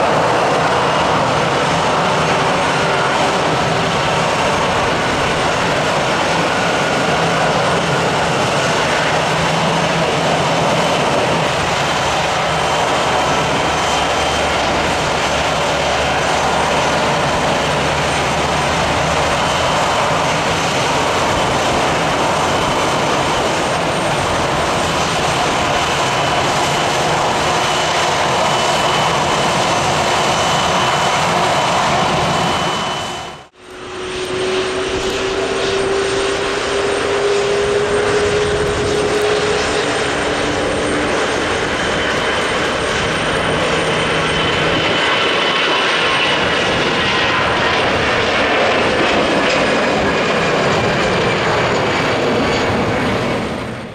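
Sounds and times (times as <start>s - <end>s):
jet engines running: 0.0s - 53.9s
rising jet engine tone: 0.0s - 53.9s.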